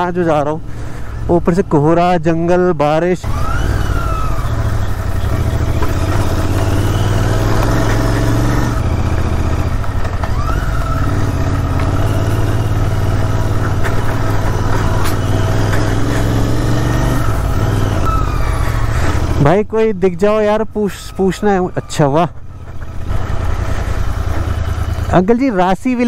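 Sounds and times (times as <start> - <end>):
motorcycle engine running: 3.2 - 26.0.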